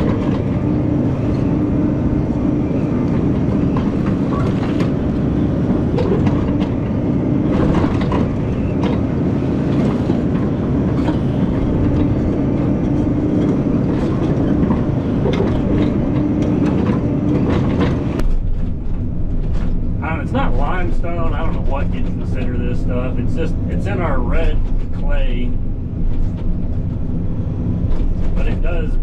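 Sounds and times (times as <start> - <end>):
excavator diesel engine: 0.0 - 29.0
mechanical whine: 0.0 - 29.0.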